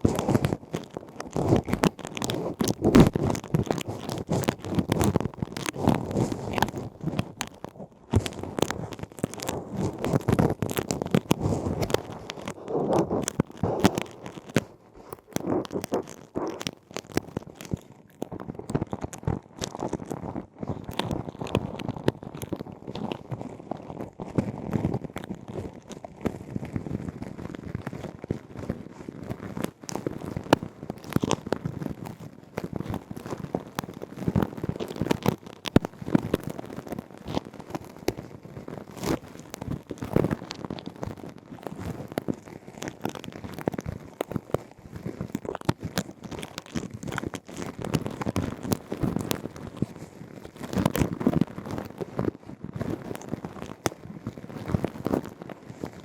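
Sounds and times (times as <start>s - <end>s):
ear pick scratching: 0.0s - 56.0s.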